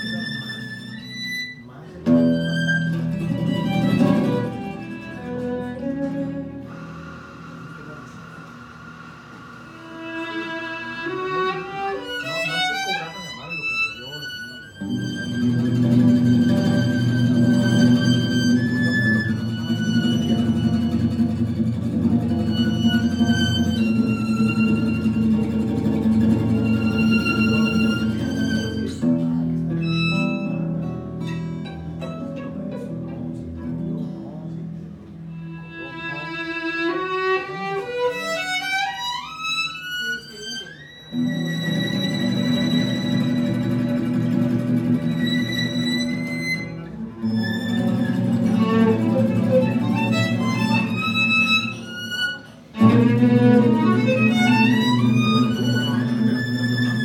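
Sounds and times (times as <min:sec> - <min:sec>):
violin guitar and double bass playing: 0:00.0 - 0:08.6, 0:09.6 - 0:57.0.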